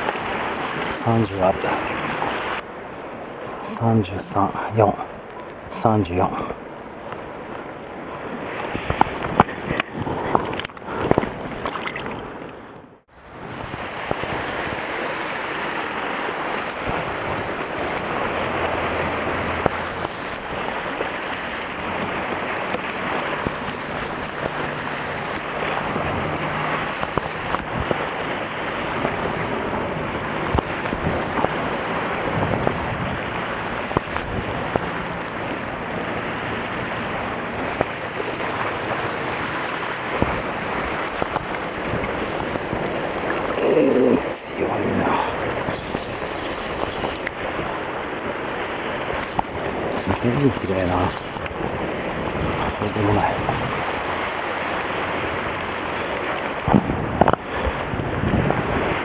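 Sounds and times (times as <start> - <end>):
waves on rocky shore: 0.0 - 59.0
wind on microphone: 6.3 - 59.0.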